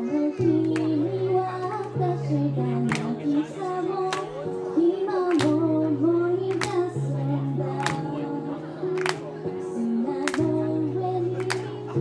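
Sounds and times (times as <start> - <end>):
pop backing track: 0.0 - 12.0
young woman singing: 0.0 - 12.0.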